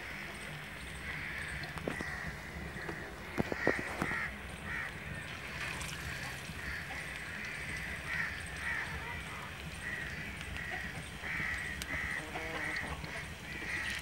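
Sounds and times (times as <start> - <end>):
crows cawing: 0.0 - 14.0
food deep-frying in oil: 0.0 - 14.0
oil popping: 1.0 - 14.0.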